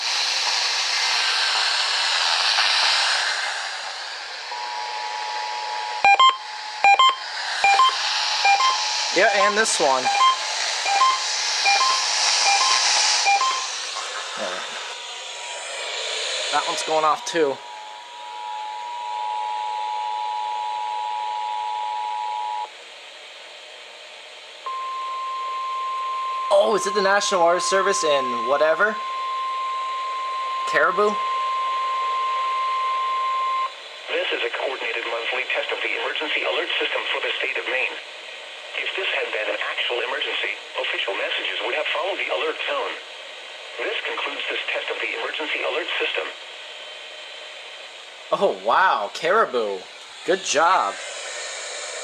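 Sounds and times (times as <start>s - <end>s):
radio hiss: 0.0s - 22.6s, 26.5s - 29.2s, 30.6s - 32.2s, 33.7s - 52.0s.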